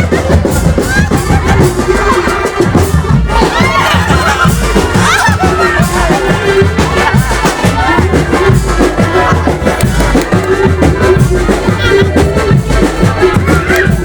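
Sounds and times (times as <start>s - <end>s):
loud music with fast beat: 0.0s - 14.0s.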